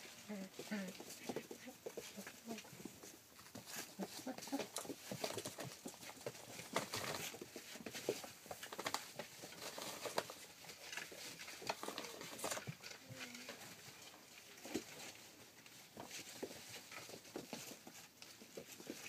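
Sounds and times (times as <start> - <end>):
puppy paws scrabbling on floor: 0.0 - 19.0.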